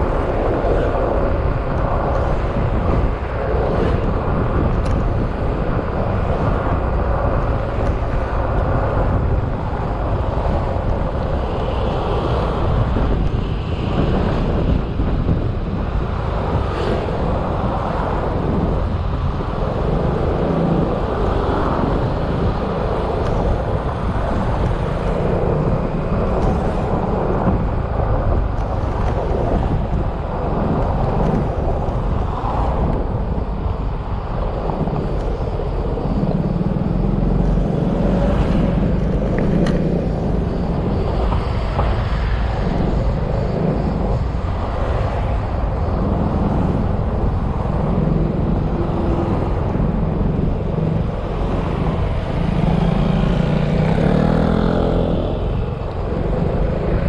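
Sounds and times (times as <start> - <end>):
scooter engine hum: 0.0 - 57.0
wind and road noise: 0.0 - 57.0.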